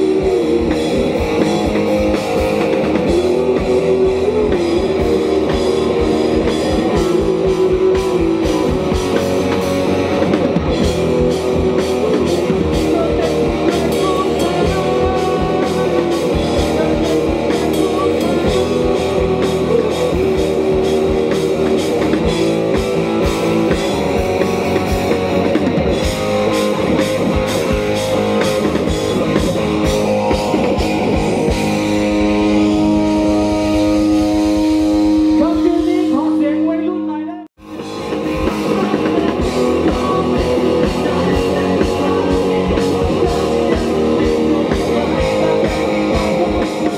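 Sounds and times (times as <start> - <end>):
drum kit beat: 0.0 - 36.4, 37.6 - 46.9
electric guitar: 0.0 - 46.9.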